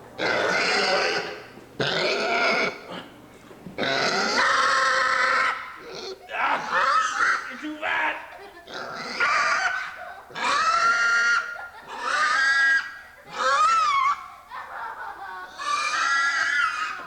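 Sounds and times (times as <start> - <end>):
pig squealing: 0.2 - 3.2, 3.8 - 14.4, 15.5 - 17.0.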